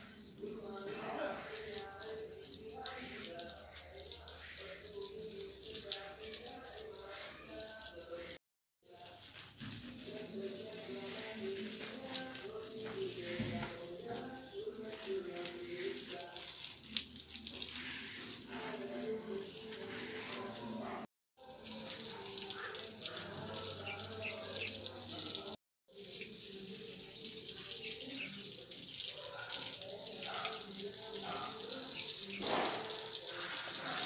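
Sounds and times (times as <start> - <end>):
garden hose spraying water: 0.0 - 34.0.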